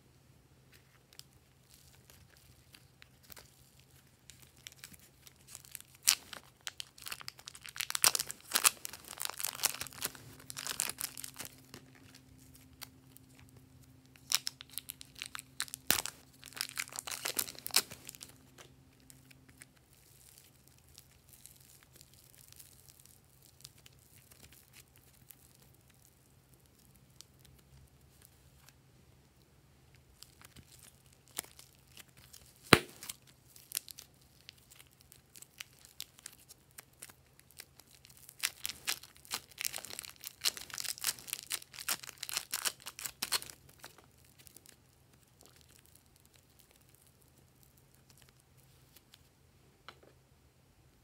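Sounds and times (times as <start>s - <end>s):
plastic bags crinkling: 1.1s - 25.6s, 30.2s - 49.0s.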